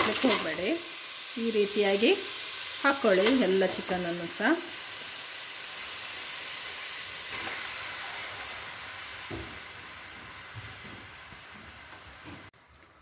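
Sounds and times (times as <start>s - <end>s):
chicken sizzling in a pot: 0.0s - 12.5s.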